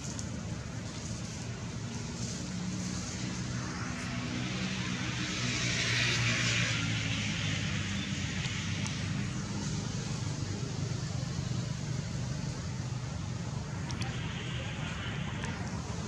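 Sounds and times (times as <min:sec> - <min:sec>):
distant engine hum: 0:00.0 - 0:16.0.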